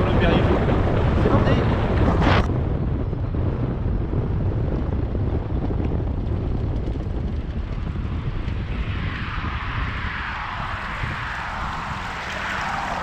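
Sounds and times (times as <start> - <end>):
low road rumble: 0.0 - 13.0
wind rushing over microphone: 0.0 - 13.0.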